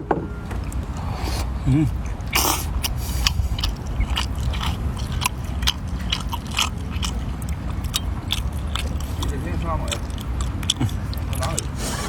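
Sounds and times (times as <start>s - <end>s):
person biting and chewing food: 1.4s - 12.0s.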